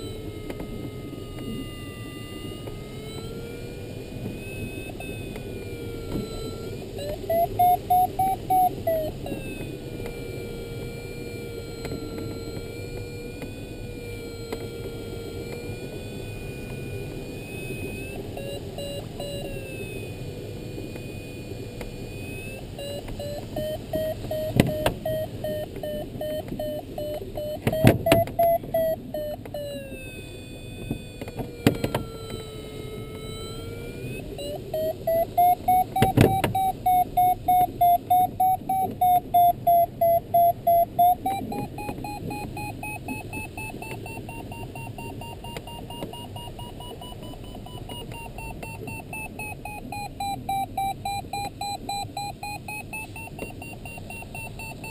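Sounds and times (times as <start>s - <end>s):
rapid variometer beeps: 0.0s - 54.9s
variometer tone gliding in pitch: 0.0s - 54.9s.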